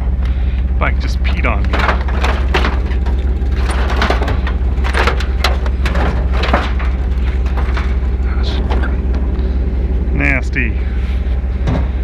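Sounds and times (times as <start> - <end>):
steady low rumble: 0.0 - 12.0
scrap metal clanking and scraping: 1.3 - 10.1, 10.8 - 12.0.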